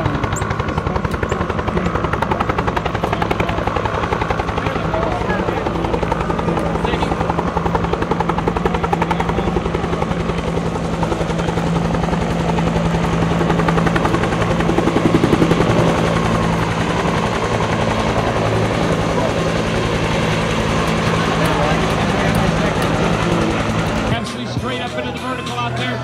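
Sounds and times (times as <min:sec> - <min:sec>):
helicopter engine hum: 0:00.0 - 0:26.0
helicopter rotor beats: 0:00.0 - 0:26.0.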